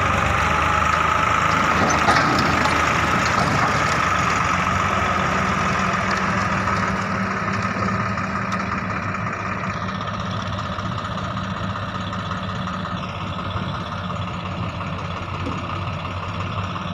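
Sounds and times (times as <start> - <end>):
diesel engine humming: 0.0 - 16.9.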